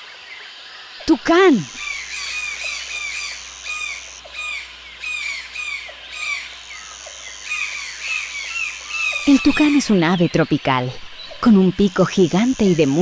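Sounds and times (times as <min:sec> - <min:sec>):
steady high buzz: 0:01.0 - 0:13.0.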